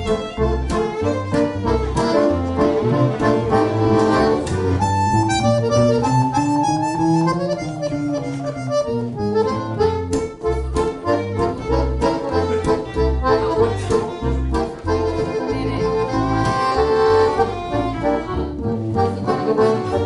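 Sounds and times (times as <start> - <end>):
accordion: 0.0 - 20.0
double bass: 0.0 - 20.0
viola: 0.0 - 20.0.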